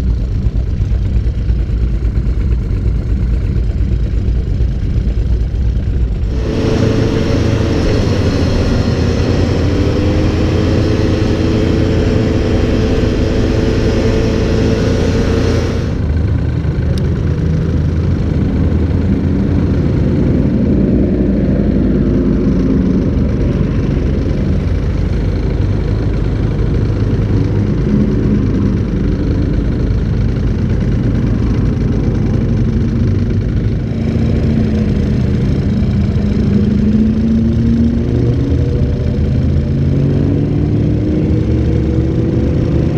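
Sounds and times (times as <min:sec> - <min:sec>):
vehicle engines running: 0:00.0 - 0:42.9.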